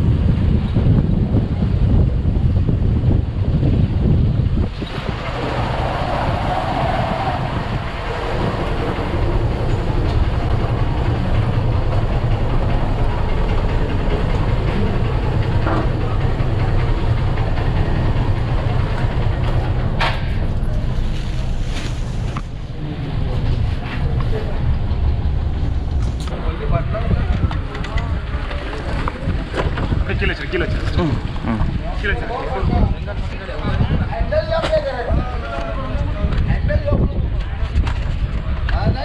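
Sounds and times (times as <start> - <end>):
motorcycle engine low rumble: 0.0 - 4.8, 6.6 - 34.1.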